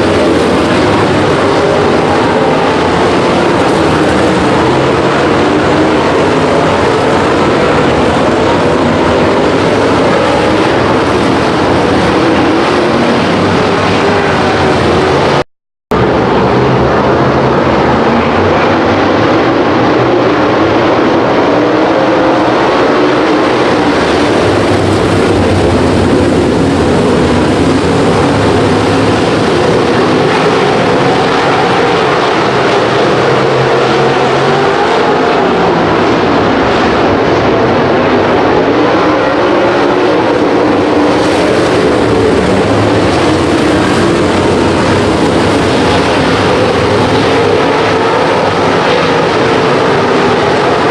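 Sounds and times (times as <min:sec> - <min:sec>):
race car engines droning: 0:00.0 - 0:50.9.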